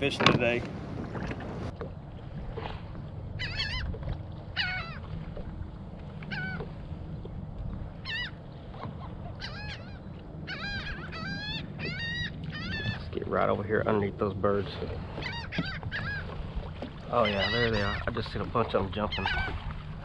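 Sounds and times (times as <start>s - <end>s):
wind and water rumble: 0.0s - 20.0s
gulls crying: 3.2s - 19.8s.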